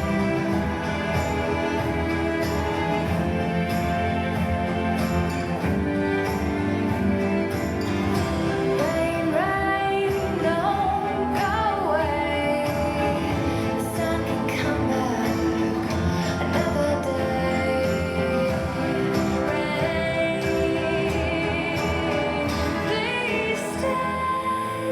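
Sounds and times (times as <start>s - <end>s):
instrumental accompaniment: 0.0s - 24.9s
melodic vocal line: 0.0s - 24.9s.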